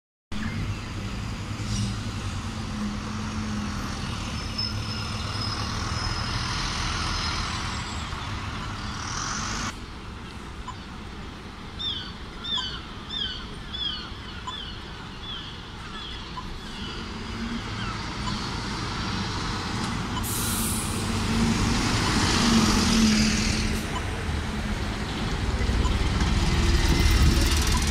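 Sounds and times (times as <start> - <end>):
bus diesel engines in traffic: 0.3 - 27.9.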